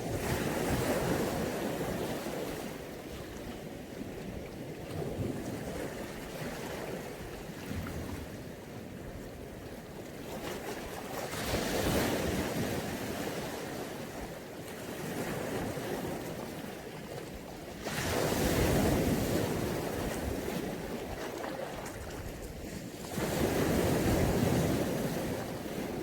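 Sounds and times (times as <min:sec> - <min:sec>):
waves breaking on shore: 0:00.0 - 0:26.0
wind buffeting microphone: 0:00.0 - 0:26.0.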